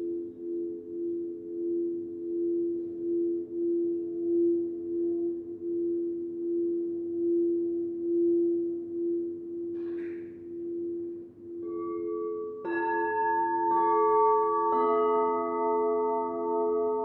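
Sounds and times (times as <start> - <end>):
crystal singing bowls ringing: 0.0 - 17.0.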